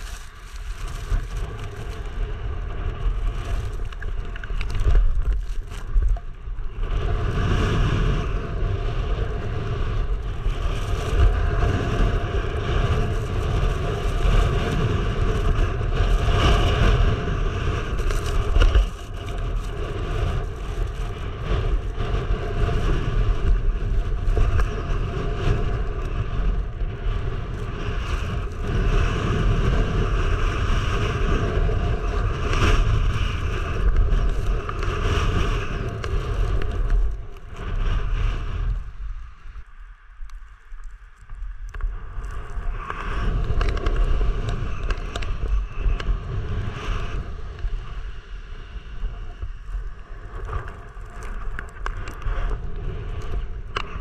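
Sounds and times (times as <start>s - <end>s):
skis scraping through snow: 0.0s - 39.6s, 41.8s - 54.0s
wind buffeting microphone: 0.0s - 54.0s.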